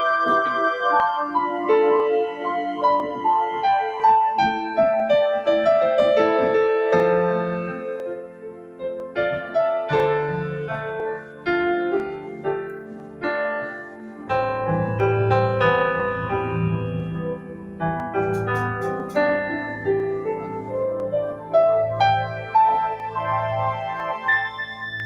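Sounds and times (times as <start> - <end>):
solo piano playing: 0.0 - 25.0.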